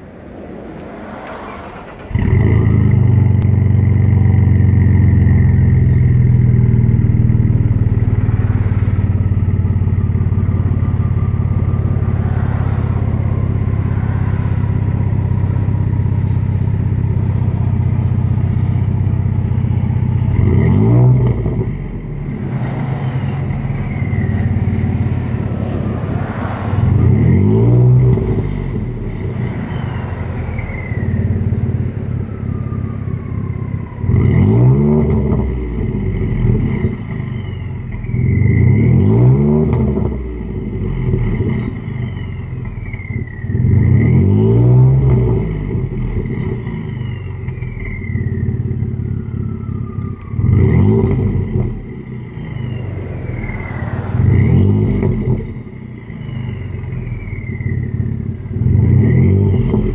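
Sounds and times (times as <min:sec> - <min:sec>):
deep exhaust idling: 0:00.0 - 0:59.9
engine revving: 0:00.0 - 0:59.9
truck engine starting: 0:00.0 - 0:59.9.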